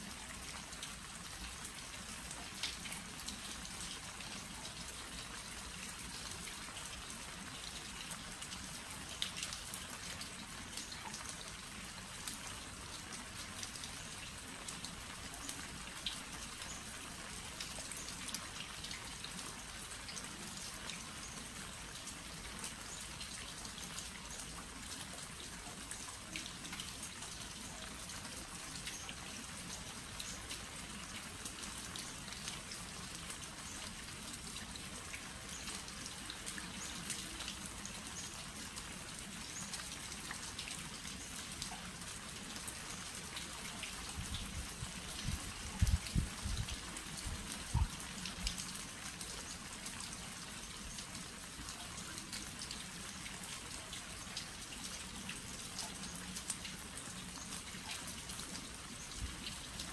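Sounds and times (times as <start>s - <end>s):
rain on earthenware crocks: 0.0s - 59.9s.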